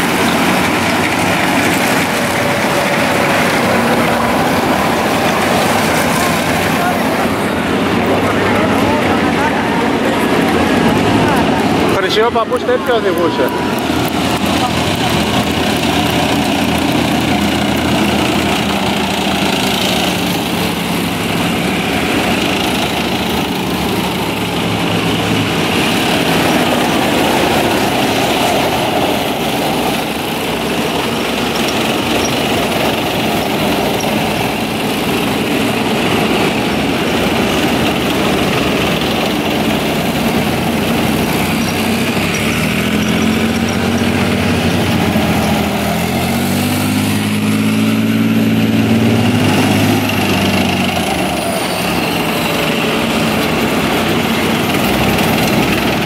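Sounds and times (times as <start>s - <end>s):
tank engines running heavily: 0.0s - 56.0s.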